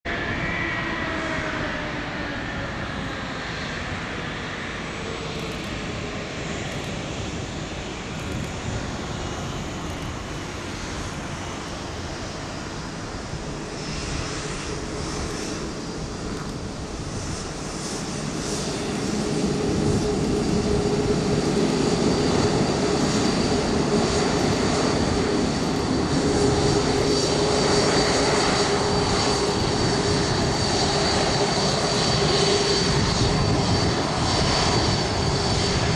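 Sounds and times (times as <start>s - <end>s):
jet engines taxiing: 0.1s - 35.9s.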